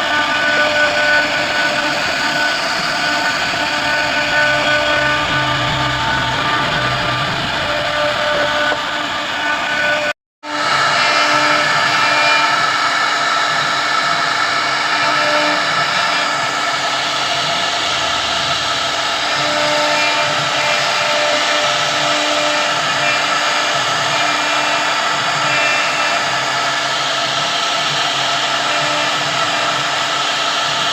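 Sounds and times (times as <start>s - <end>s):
wood-carving router whining: 0.0s - 30.9s.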